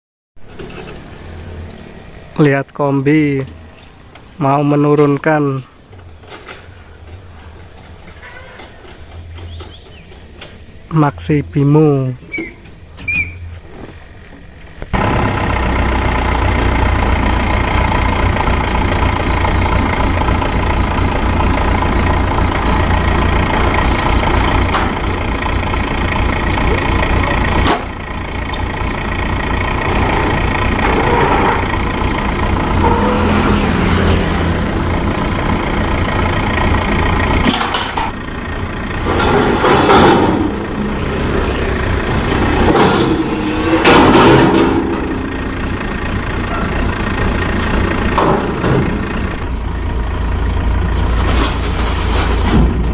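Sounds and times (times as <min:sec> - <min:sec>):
combine harvester engine running: 0:00.4 - 0:11.3, 0:12.2 - 0:52.9.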